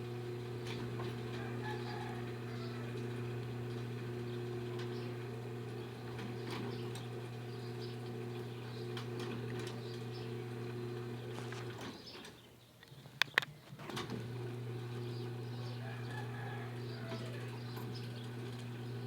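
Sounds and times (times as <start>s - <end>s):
gate motor humming: 0.0s - 12.3s, 13.8s - 19.0s.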